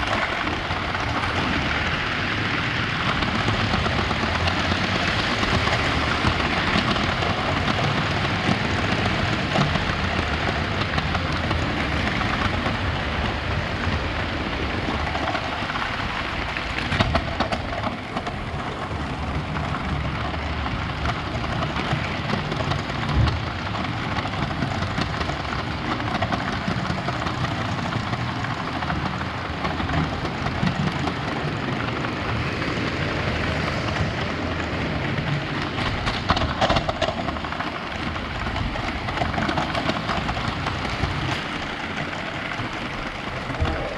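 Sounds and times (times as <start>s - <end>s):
toy train rattling on plastic track: 0.0s - 43.9s.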